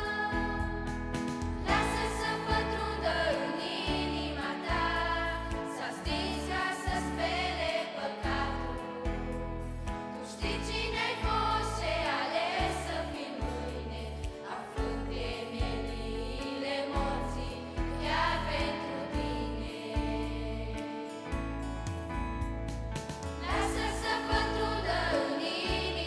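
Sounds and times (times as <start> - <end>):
instrumental accompaniment: 0.0 - 16.6, 17.5 - 26.0
choir singing worship song: 0.0 - 21.9, 23.3 - 26.0.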